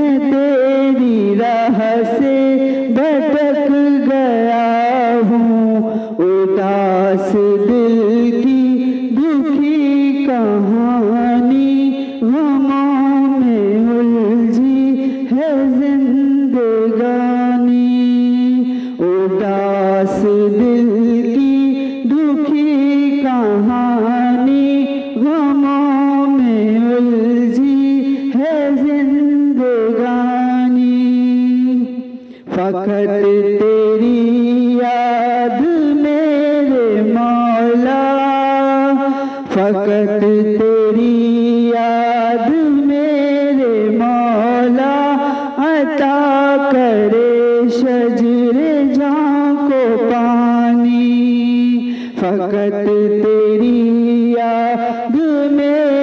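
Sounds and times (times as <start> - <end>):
person singing a hymn: 0.0 - 56.0.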